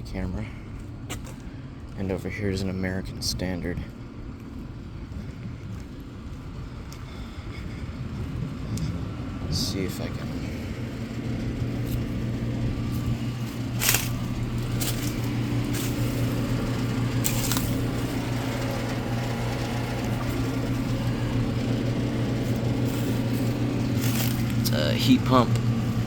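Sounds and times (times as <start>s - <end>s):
heat pump humming: 0.0s - 26.0s.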